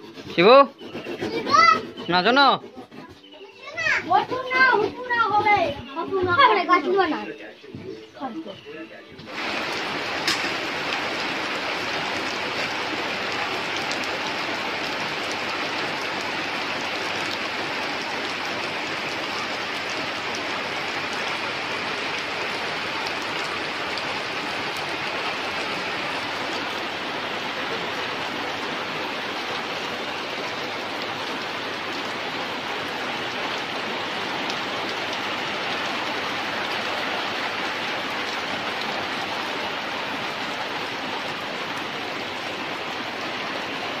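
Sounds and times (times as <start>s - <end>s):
heavy rain on flooded ground: 8.3s - 44.0s.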